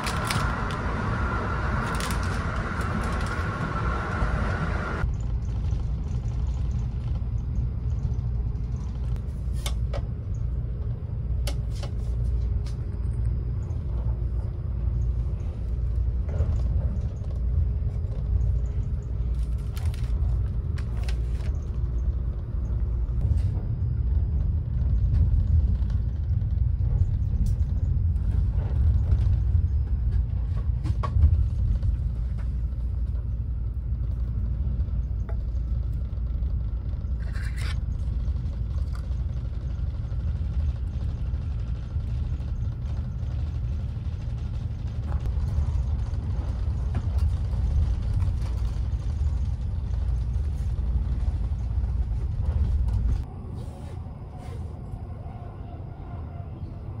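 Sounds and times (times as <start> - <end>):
train rumble inside cabin: 0.0 - 57.0.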